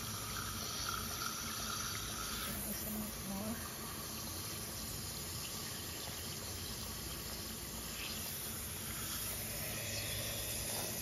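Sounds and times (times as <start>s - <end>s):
hose spraying water: 0.0s - 11.0s.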